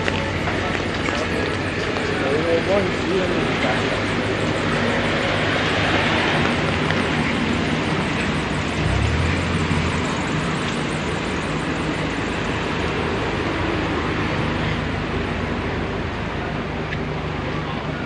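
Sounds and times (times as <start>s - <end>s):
passing vehicle rumble: 0.0s - 15.7s.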